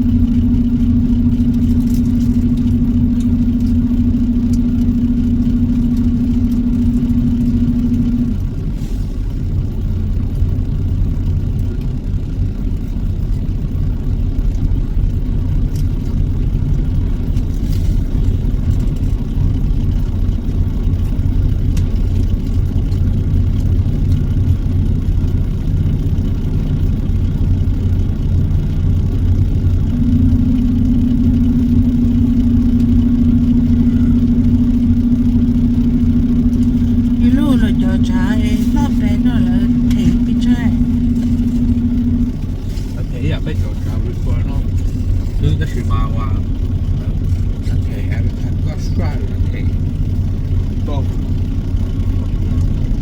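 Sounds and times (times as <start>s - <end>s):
steady hum: 0.0s - 11.4s, 13.4s - 53.0s
road noise: 0.0s - 53.0s
truck engine running: 0.0s - 53.0s.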